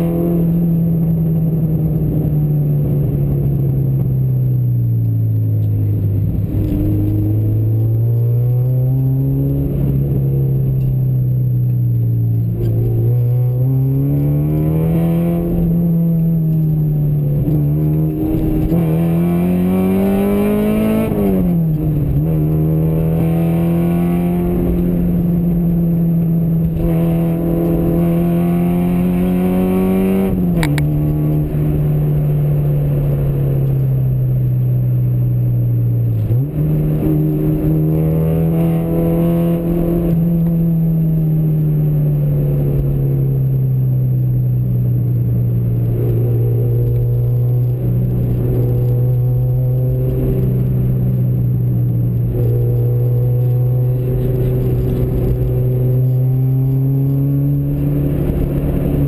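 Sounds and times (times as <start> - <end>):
vehicle engine accelerating: 0.0 - 59.0.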